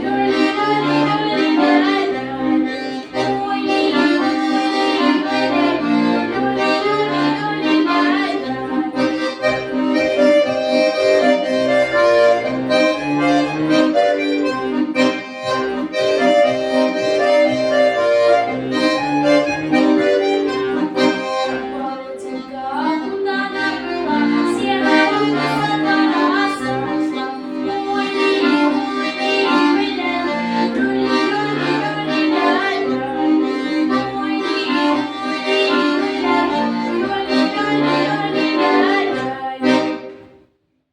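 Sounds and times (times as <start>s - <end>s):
accordion playing folk tune: 0.0s - 40.5s.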